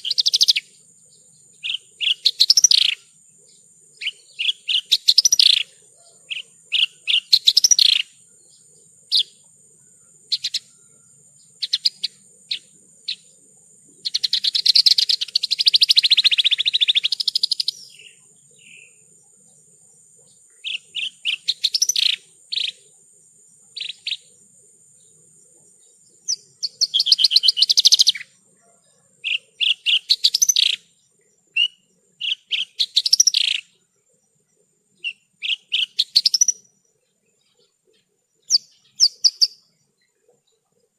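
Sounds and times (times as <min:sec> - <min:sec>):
lark singing chirps and trills: 0:00.0 - 0:40.9.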